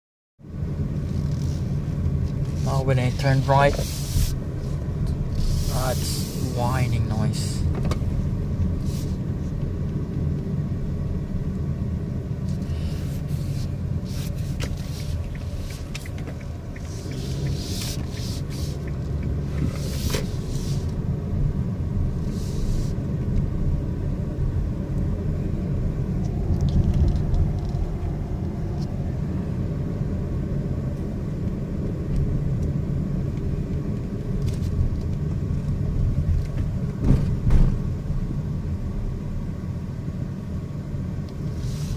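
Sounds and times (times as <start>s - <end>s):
car rumble: 0.4s - 41.9s
faint car whine: 0.4s - 41.9s.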